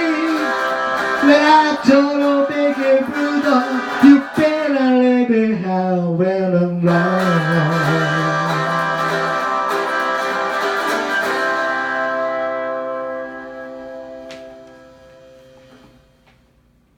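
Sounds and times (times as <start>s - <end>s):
rockabilly electric guitar: 0.0s - 15.8s.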